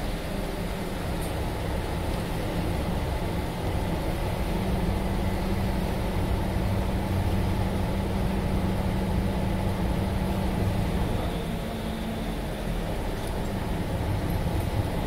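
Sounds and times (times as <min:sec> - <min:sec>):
ferry engines droning: 0:00.0 - 0:15.0.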